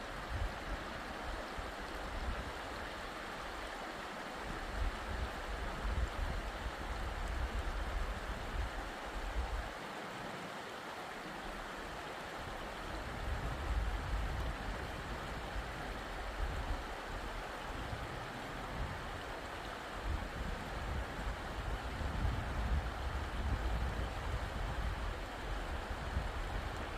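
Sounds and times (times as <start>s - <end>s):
wind rumble on microphone: 0.0s - 3.8s, 4.4s - 9.8s, 12.3s - 26.9s
running water rushing: 0.0s - 26.9s.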